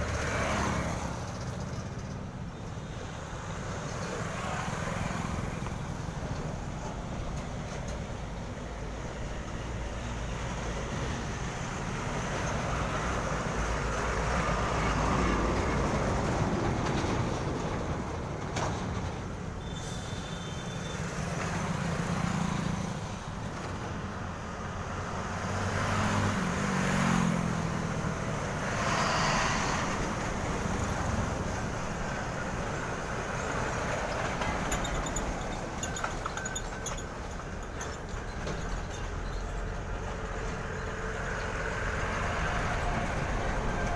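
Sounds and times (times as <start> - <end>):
heavy trucks driving past: 0.0 - 43.9.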